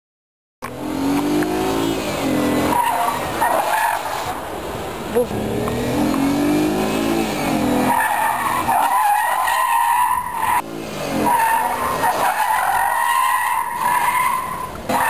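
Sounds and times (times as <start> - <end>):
car engine revving: 0.6 - 15.0
tyres squealing: 1.5 - 4.4, 5.7 - 15.0.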